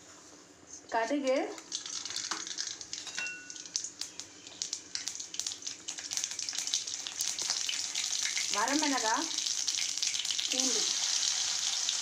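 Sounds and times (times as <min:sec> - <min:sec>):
seeds sizzling and popping in oil: 0:01.6 - 0:12.0.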